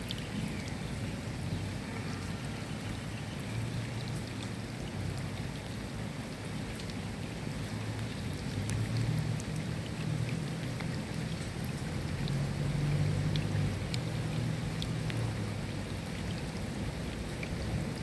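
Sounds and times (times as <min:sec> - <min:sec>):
rain drop ticks: 0:00.0 - 0:00.8, 0:03.5 - 0:05.8, 0:06.6 - 0:18.0
steady rain falling: 0:00.0 - 0:18.0.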